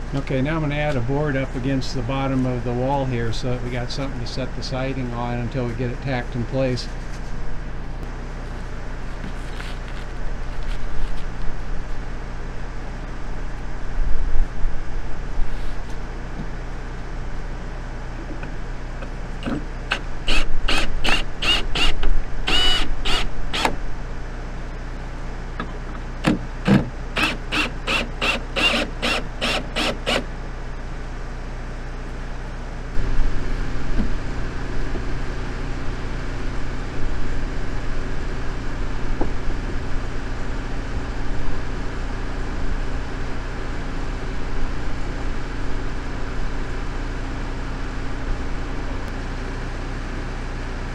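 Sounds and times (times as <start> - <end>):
generator engine hum: 0.0 - 50.9.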